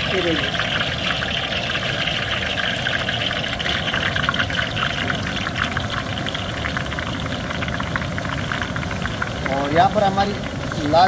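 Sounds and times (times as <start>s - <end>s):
frying in hot oil sizzling: 0.0s - 11.0s.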